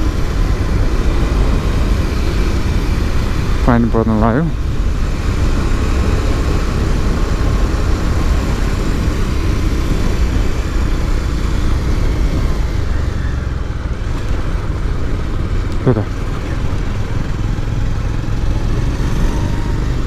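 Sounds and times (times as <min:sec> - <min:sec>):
motorcycle engine and road rumble: 0:00.0 - 0:20.0.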